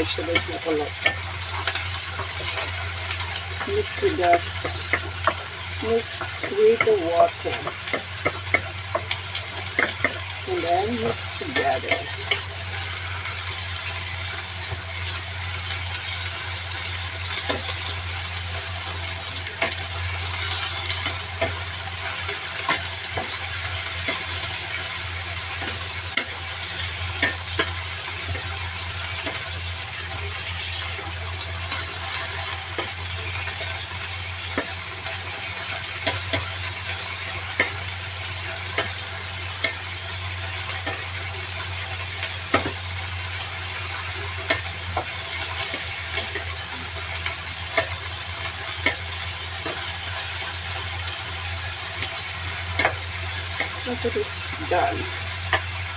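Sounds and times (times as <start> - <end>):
vegetables sizzling in a pan: 0.0 - 55.9.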